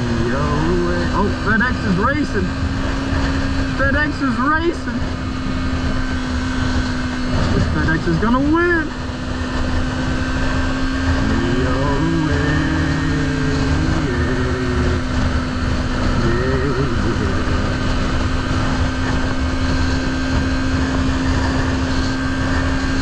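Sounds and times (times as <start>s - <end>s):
motorbike engine drone: 0.0s - 23.0s.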